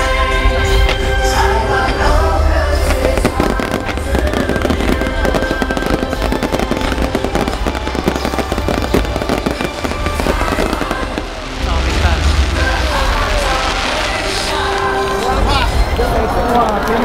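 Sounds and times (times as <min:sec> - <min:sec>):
fireworks crackles and bangs: 0:00.0 - 0:17.0
music playing: 0:00.0 - 0:17.0.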